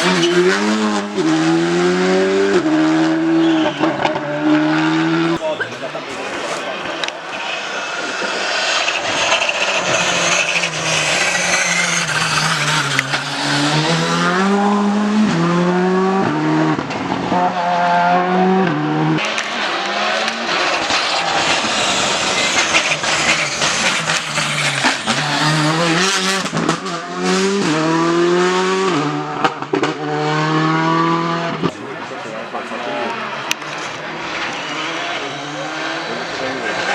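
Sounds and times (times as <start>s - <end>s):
rally car engine accelerating: 0.0s - 36.9s
tyre and road noise: 0.0s - 36.9s.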